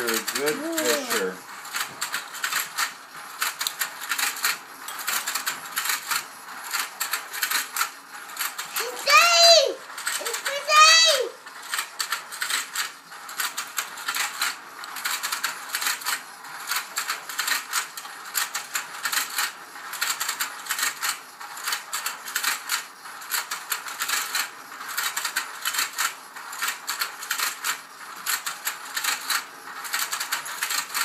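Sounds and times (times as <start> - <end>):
toy gears clicking and clattering: 0.0 - 31.0.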